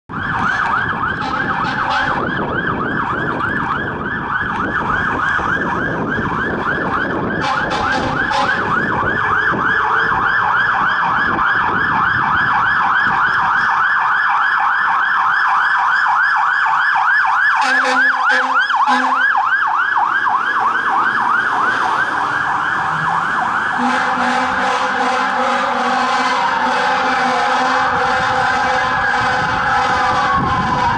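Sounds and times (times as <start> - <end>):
fire engine siren yelping: 0.1 - 30.9
truck engine rumble: 0.1 - 30.9.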